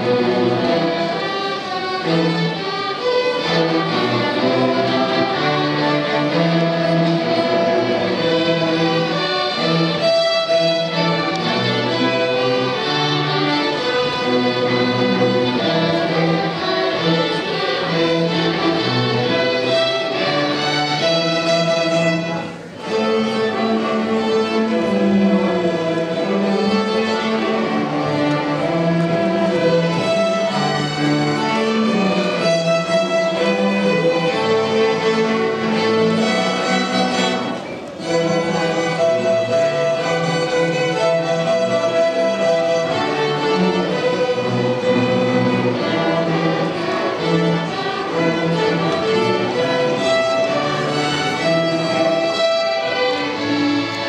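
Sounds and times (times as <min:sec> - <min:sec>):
string orchestra playing: 0:00.0 - 0:54.0.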